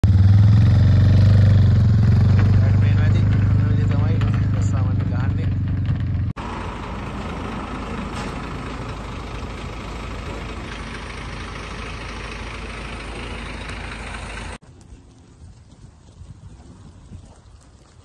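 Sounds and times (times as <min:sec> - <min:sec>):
truck engine idling: 0:00.0 - 0:14.6.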